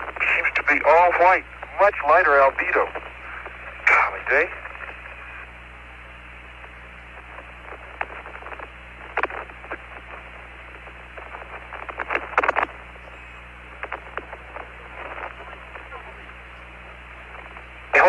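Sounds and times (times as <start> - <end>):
low hum: 0.0 - 18.0
radio crackles and pops: 0.0 - 18.0
steady radio hiss: 0.0 - 18.0.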